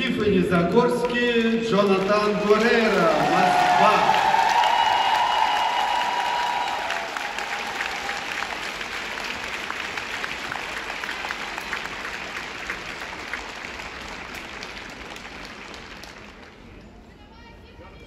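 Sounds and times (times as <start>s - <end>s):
audience applauding: 1.0s - 16.7s.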